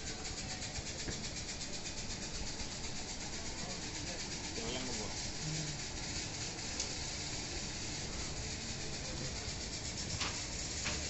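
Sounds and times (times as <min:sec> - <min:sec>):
train interior hiss: 0:00.0 - 0:11.0.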